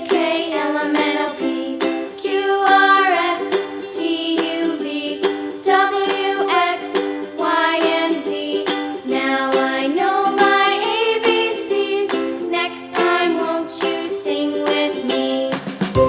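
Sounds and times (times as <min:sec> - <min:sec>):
light melody with plucked strings: 0:00.0 - 0:16.0.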